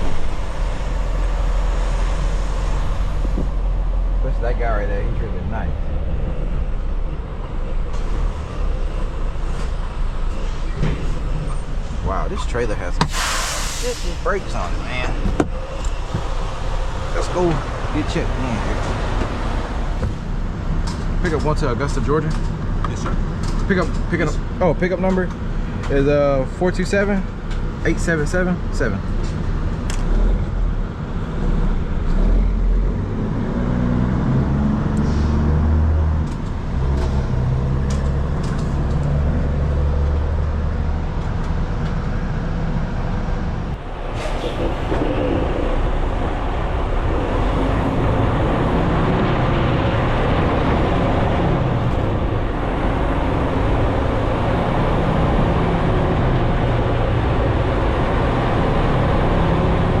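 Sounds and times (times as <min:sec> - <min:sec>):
road noise: 0:00.0 - 1:00.0
truck diesel engine rumbling: 0:00.0 - 1:00.0.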